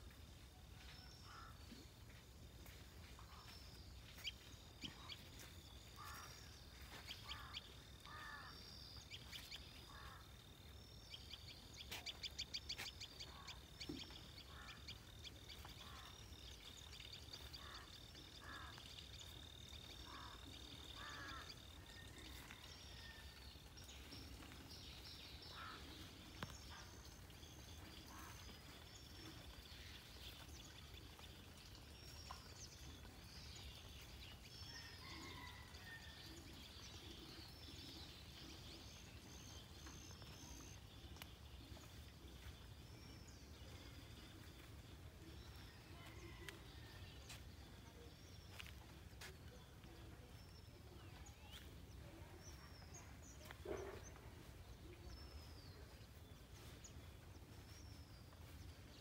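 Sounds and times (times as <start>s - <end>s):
faint birdsong: 0.0s - 59.0s.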